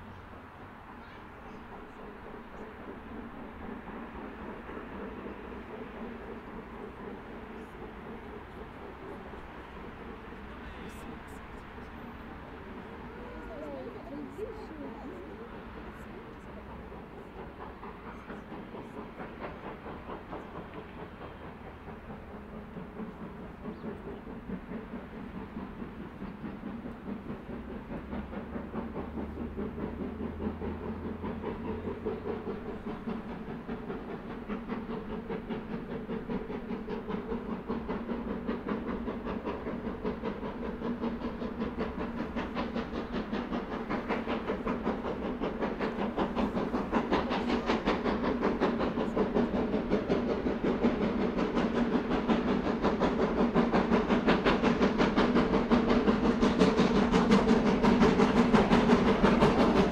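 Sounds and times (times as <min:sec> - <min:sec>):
steam hiss: 0:00.0 - 0:59.9
steam locomotive rhythmic beat: 0:01.6 - 0:59.9.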